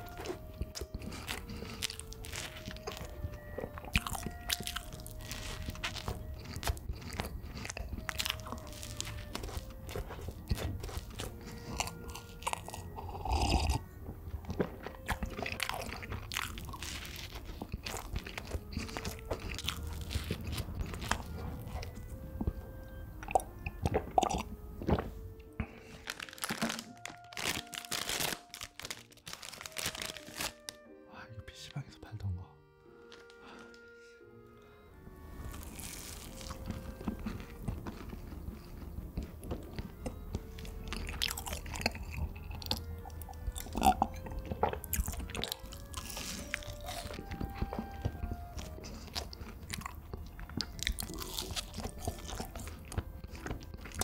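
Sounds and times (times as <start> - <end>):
chewing and biting donut: 0.0 - 30.8, 35.1 - 54.0.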